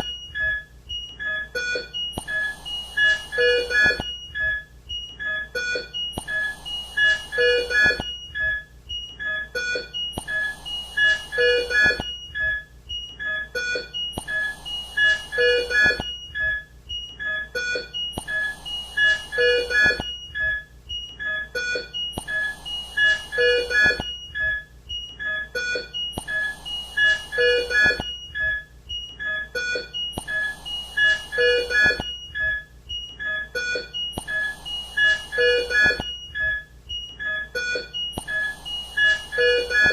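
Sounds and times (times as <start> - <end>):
electronic monitor beeps: 0.0 - 39.9.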